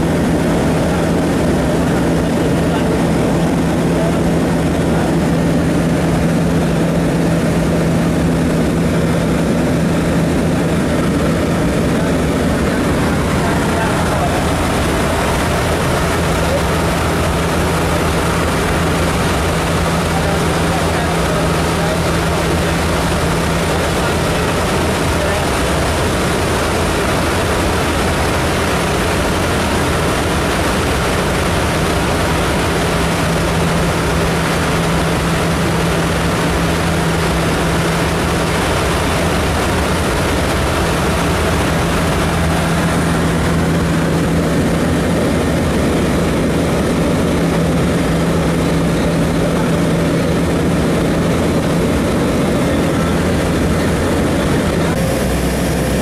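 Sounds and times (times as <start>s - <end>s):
low cabin hum: 0.0s - 56.0s
propeller airplane engines droning: 0.0s - 56.0s.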